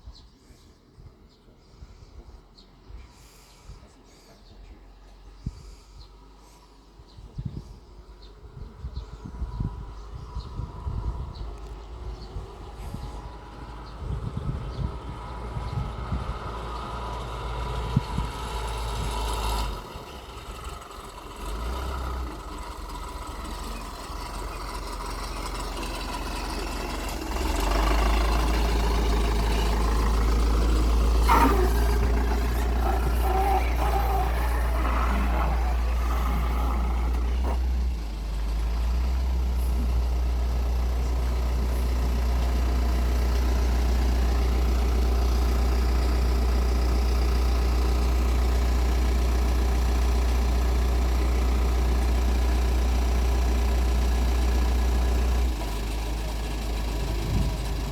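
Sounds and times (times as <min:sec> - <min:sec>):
diesel engine running: 0:08.4 - 0:57.9.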